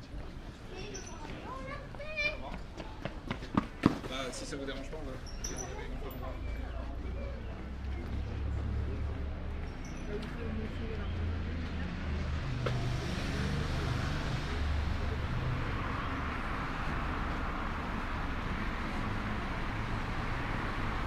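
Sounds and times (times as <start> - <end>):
traffic engine rumble: 0.0 - 21.0
tyre noise of passing vehicle: 0.1 - 21.0.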